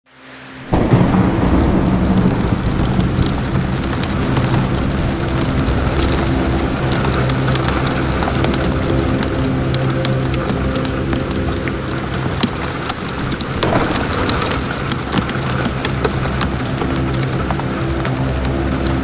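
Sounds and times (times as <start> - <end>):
heavy rain on car roof: 0.2 - 19.0
low hum: 0.7 - 18.5.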